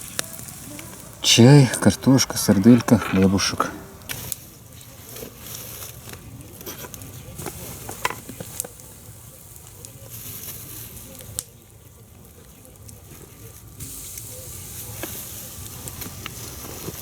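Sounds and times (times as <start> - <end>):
campfire hissing and crackling: 0.0 - 17.0
sharp fire snaps: 0.0 - 17.0.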